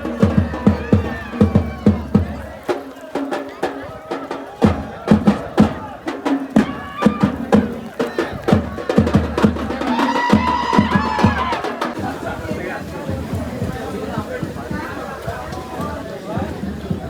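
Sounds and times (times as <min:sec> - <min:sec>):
percussion dance music: 0:00.0 - 0:14.9.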